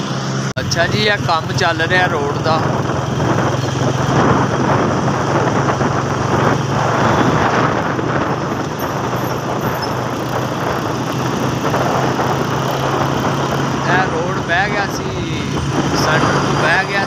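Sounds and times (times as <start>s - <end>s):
engine hum: 0.0s - 17.0s
road noise: 0.0s - 17.0s
rushing wind: 0.0s - 17.0s.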